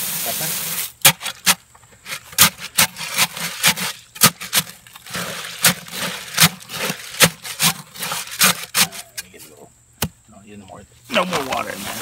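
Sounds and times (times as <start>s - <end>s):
gritty scraping: 0.6s - 12.0s.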